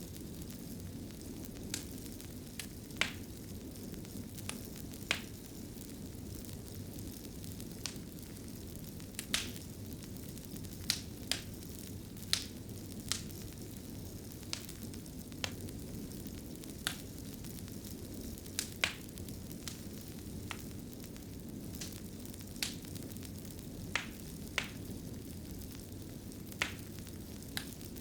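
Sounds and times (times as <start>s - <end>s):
fire crackles and pops: 0.0s - 28.0s
fire flames rumbling: 0.0s - 28.0s.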